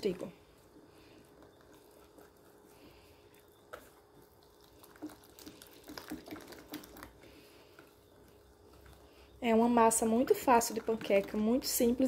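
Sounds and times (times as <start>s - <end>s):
wet whisk stirring batter: 0.0s - 12.0s.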